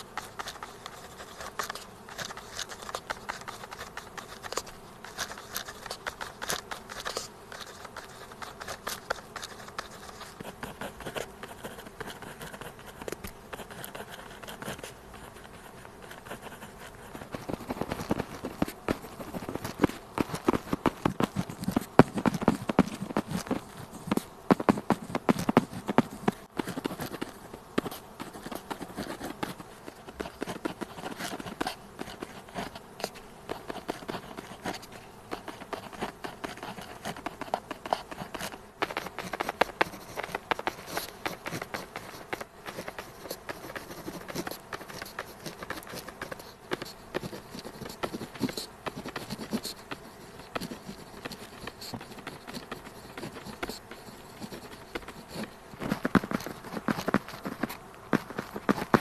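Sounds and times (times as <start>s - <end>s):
pen scratching on paper: 0.0s - 59.0s.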